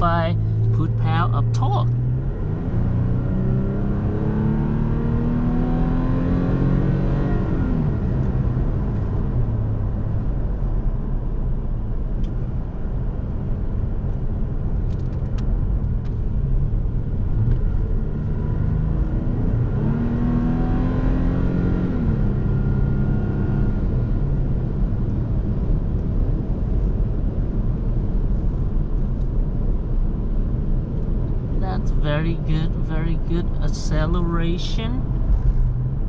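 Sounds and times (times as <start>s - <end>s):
road rumble: 0.0s - 36.0s.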